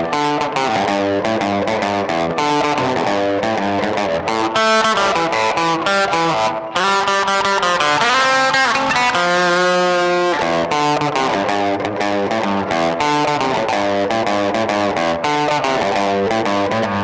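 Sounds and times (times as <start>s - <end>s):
overdriven electric guitar lead: 0.0s - 17.0s.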